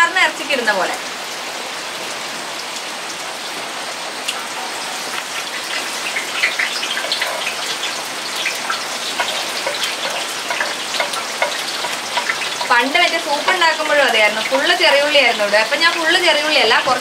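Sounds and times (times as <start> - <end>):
crackling sizzles in hot oil: 0.0 - 17.0
heavy rain falling: 0.0 - 17.0.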